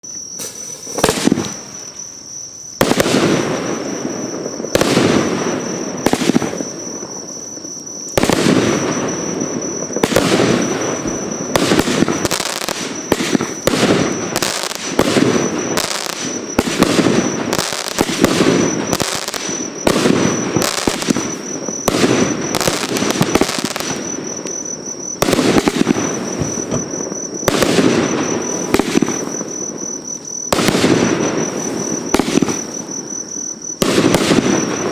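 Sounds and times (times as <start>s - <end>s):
fireworks battery firing: 2.8s - 6.8s, 8.2s - 29.8s, 30.4s - 32.8s, 33.8s - 34.9s.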